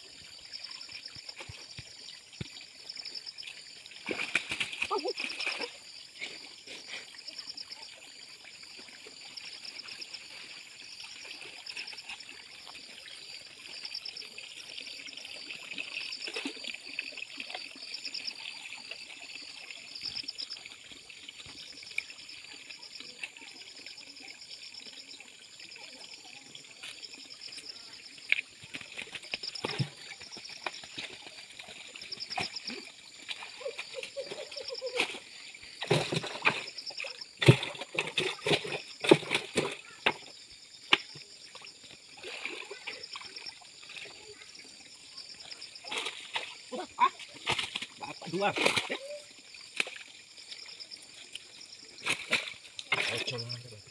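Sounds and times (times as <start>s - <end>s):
water splashes: 0.0s - 53.9s
water trickling and sloshing: 0.0s - 53.9s.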